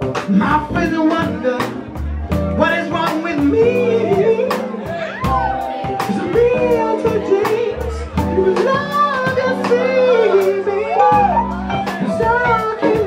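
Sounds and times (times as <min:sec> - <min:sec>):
live band music: 0:00.0 - 0:13.0
man singing into microphone: 0:00.0 - 0:13.0.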